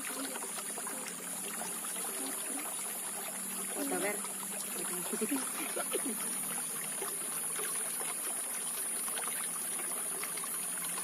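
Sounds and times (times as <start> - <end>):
faint trickling water: 0.0 - 11.0.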